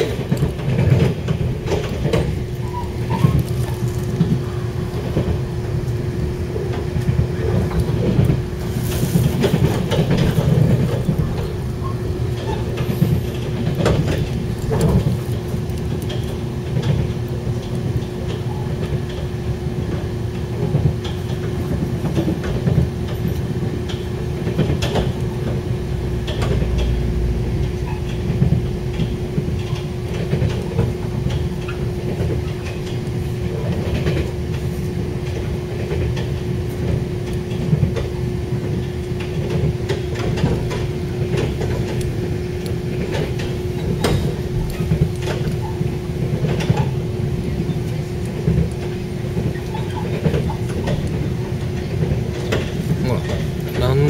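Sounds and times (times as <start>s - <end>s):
constant hum: 0.0s - 54.0s
train wheels rumbling on rails: 0.0s - 54.0s.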